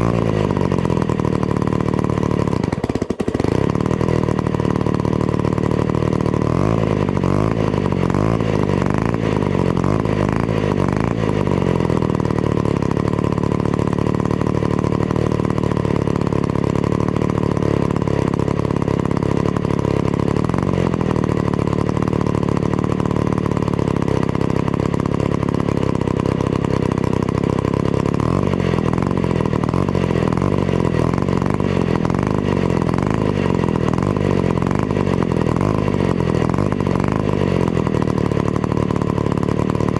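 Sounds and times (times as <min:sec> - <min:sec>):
two-stroke chainsaw engine running: 0:00.0 - 0:39.9.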